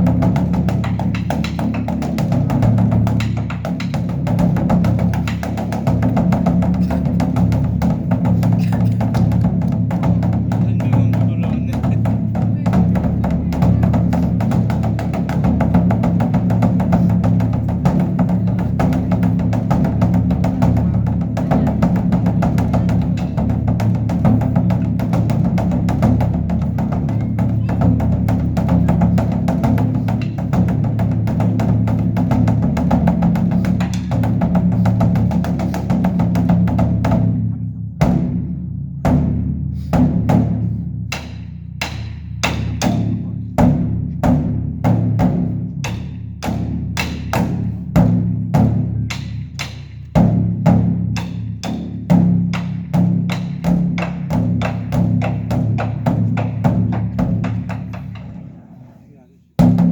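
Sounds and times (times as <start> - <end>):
deep drum beaten with sticks: 0.0 - 58.7, 59.5 - 59.9.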